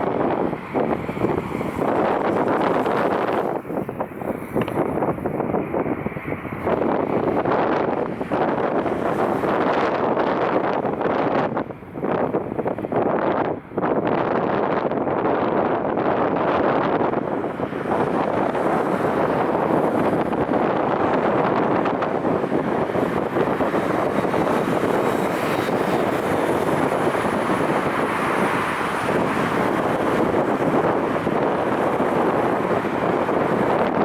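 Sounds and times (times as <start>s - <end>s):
turboprop plane whine: 0.0s - 34.0s
wind buffeting microphone: 0.0s - 34.0s.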